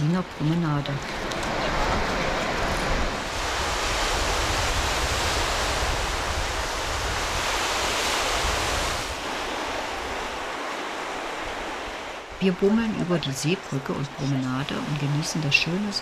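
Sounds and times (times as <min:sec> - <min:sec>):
surf washing onto beach: 0:00.0 - 0:16.0
wind rumbling on microphone: 0:00.0 - 0:16.0.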